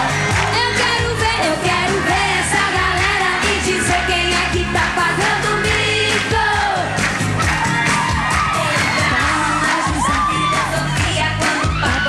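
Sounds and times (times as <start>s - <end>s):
upbeat pop song: 0.0s - 12.0s
woman singing: 0.4s - 7.0s, 8.6s - 12.0s.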